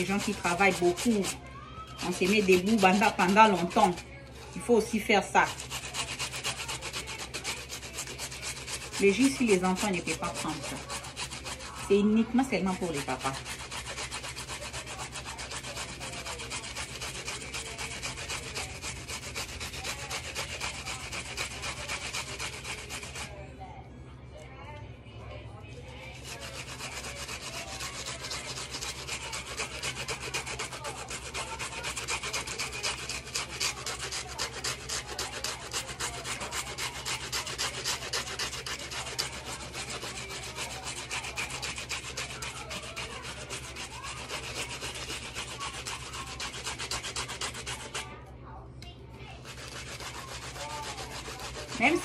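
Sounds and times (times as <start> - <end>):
onion grating on grater: 0.0 - 23.4, 25.9 - 48.2, 49.2 - 52.0.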